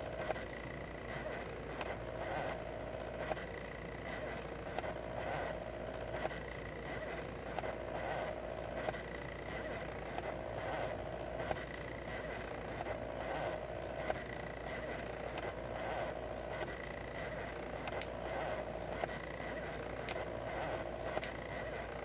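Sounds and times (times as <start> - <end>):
stepper motors whining: 0.0 - 22.0
small ticks: 0.1 - 2.6, 3.2 - 22.0.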